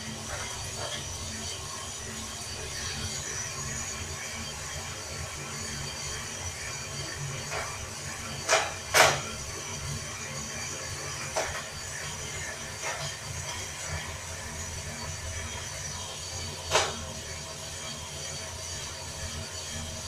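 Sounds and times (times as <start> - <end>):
gas burner: 0.0 - 20.0
roaster drum rumbling and rattling: 0.0 - 20.0.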